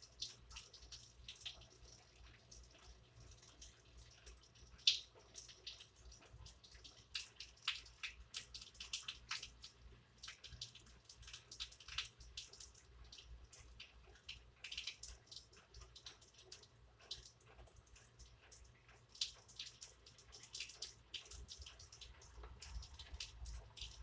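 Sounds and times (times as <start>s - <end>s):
rain drops pattering: 0.0s - 24.0s.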